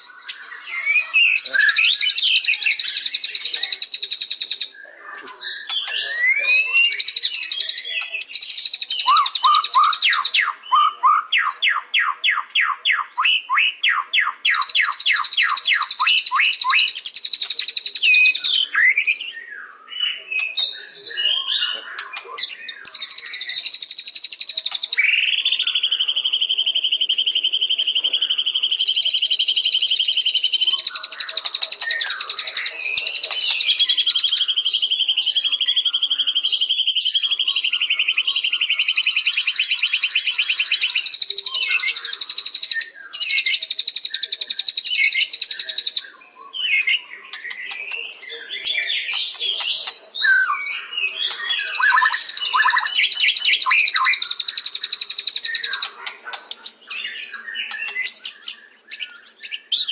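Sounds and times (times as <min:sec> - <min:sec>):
bird singing varied song: 0:00.0 - 0:59.9.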